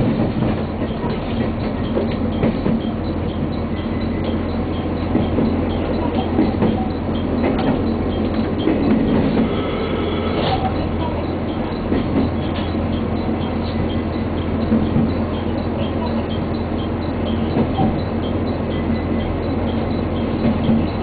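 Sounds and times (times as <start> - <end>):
wheels clicking over rail joints: 0.0 - 9.6, 10.4 - 21.0
train cabin low hum: 0.0 - 21.0.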